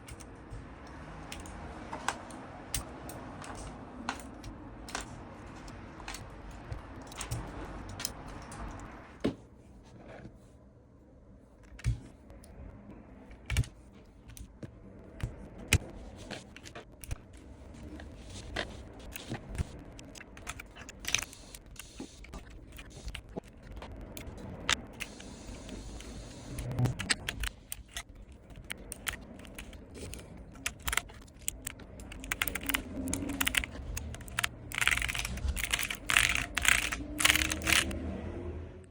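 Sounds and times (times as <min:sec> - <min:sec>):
keyboard keycaps clicking: 0:00.0 - 0:09.0, 0:13.3 - 0:38.0.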